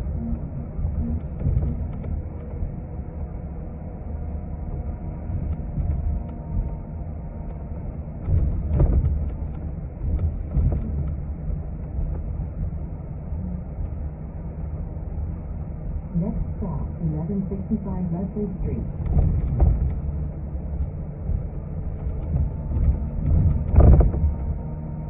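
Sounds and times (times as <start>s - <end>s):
bus engine and road rumble: 0.0s - 25.0s
faint whine: 0.0s - 25.0s.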